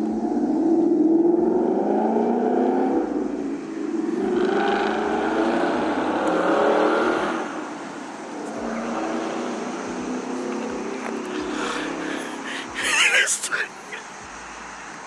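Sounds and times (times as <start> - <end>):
car exhaust accelerating: 0.0 - 12.8.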